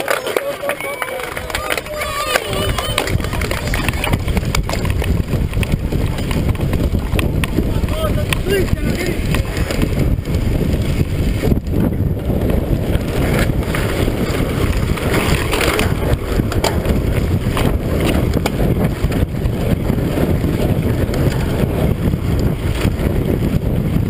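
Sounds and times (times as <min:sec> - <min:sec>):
tyres rumbling on gravel: 0:00.0 - 0:24.0
wind rushing over microphone: 0:01.3 - 0:24.0
bike knocks and rattles: 0:02.8 - 0:24.0.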